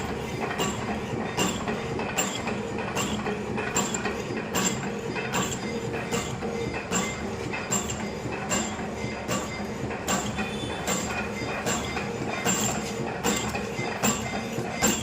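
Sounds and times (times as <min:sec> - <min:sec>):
machine running noise: 0:00.0 - 0:15.0.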